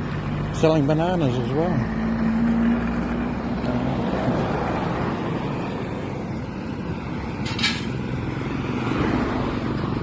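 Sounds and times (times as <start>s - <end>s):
steady traffic rush: 0.0s - 10.0s
vehicle engine hum passing: 0.0s - 10.0s.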